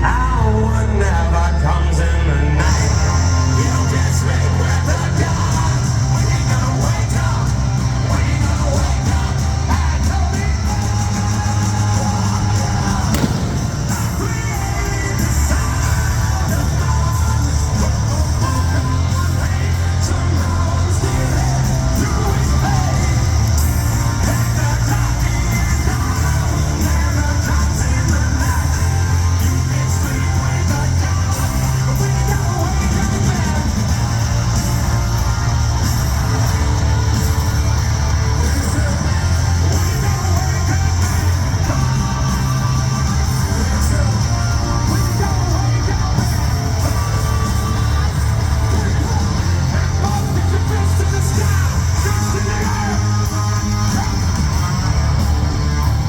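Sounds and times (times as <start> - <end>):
person singing: 0.0 - 55.9
distorted electric guitars: 0.0 - 56.0
live hard rock band: 0.0 - 56.0.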